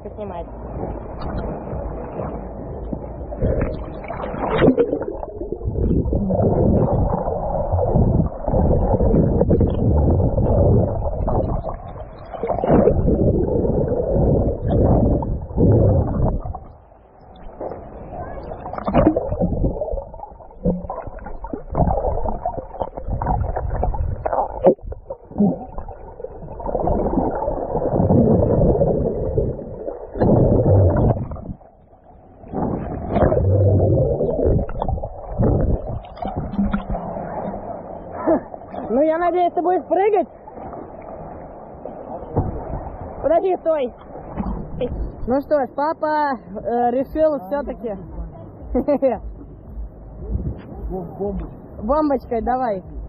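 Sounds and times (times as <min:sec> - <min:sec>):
water sloshing and gurgling: 0:00.0 - 0:53.0
water splashes: 0:00.0 - 0:53.0.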